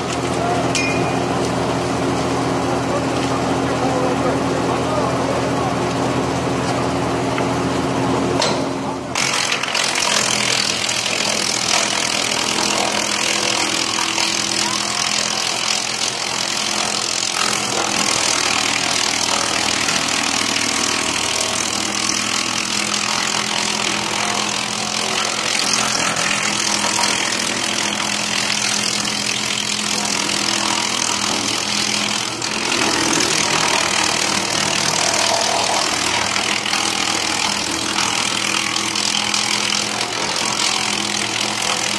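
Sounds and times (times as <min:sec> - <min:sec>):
wood chipper engine hum: 0:00.0 - 0:41.9.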